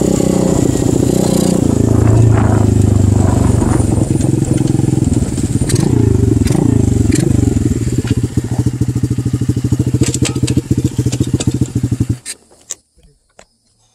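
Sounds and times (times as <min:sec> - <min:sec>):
motorbike engine slowing and idling: 0:00.0 - 0:12.7.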